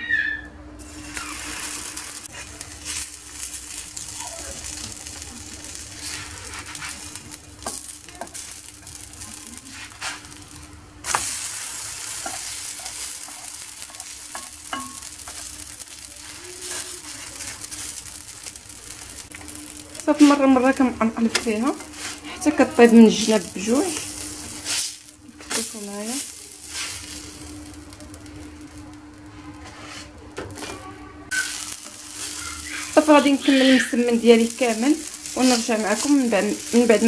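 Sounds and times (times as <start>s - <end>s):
spatula scraping and tapping griddle: 0.8s - 18.1s, 21.2s - 25.9s, 26.6s - 37.0s
flatbread sizzling on griddle: 0.8s - 37.0s.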